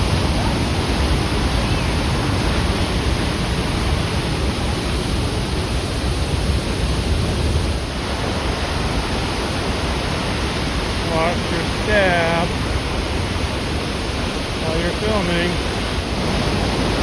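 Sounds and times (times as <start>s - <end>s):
rushing water roar: 0.0s - 17.0s.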